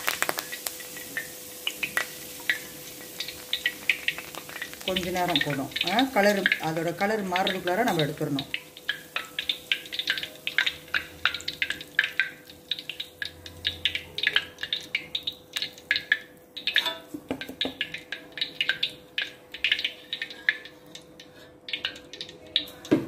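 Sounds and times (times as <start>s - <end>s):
leaves frying in hot oil: 0.0s - 23.0s.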